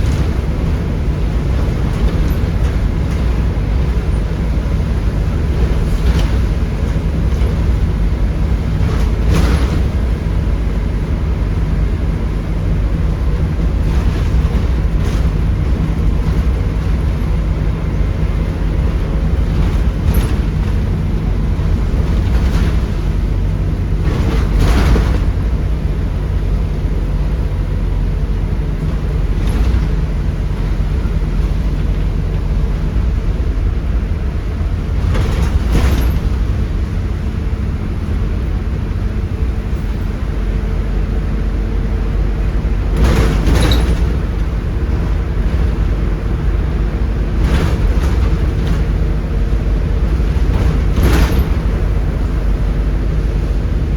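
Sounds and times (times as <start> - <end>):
bus diesel engine droning: 0.0 - 53.9
rattles and knocks: 0.0 - 53.9.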